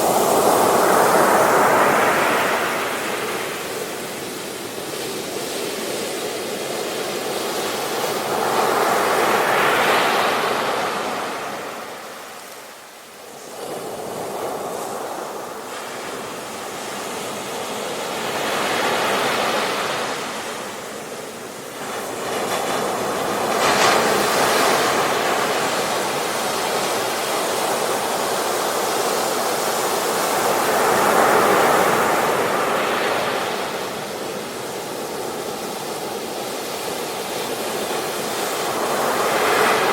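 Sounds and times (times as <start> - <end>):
ocean waves breaking: 0.0 - 12.5, 13.4 - 39.9.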